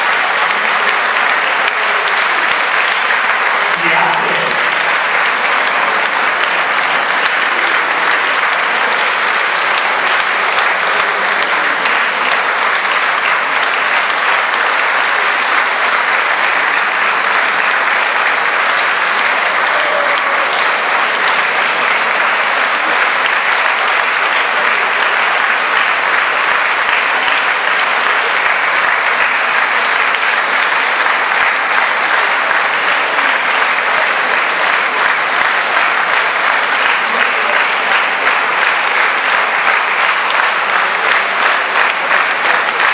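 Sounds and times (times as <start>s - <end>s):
audience applauding: 0.0s - 42.9s.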